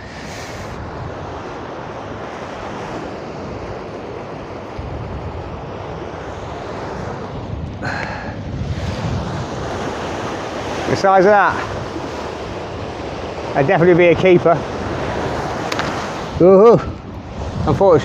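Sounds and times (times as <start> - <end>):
sea surf: 0.0 - 18.0
wind buffeting microphone: 0.0 - 18.0.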